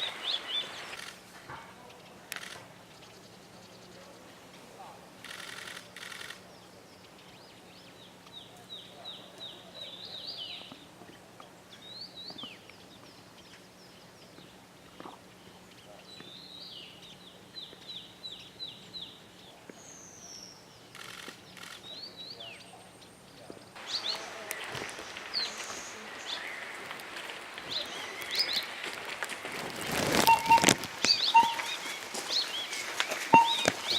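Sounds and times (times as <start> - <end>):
small bird singing: 6.4 - 33.9.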